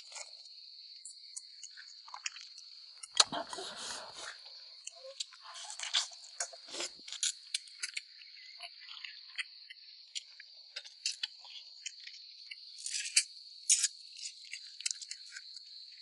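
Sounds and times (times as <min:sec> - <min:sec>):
crunching clicks of eating: 0:00.0 - 0:03.7, 0:04.3 - 0:16.0
insects chirring: 0:00.0 - 0:16.0.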